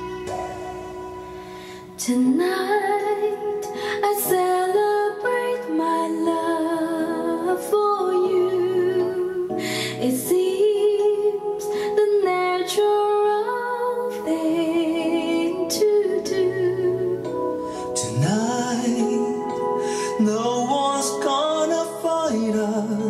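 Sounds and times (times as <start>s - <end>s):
person singing slow vocal music: 0.0s - 23.0s.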